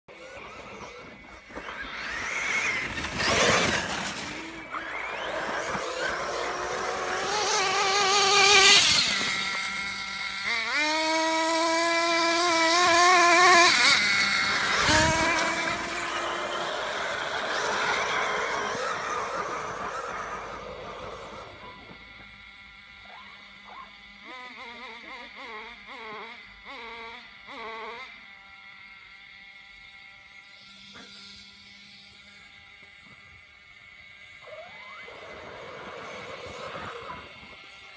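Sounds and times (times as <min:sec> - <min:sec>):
rc car motor revving: 0:00.1 - 0:37.9.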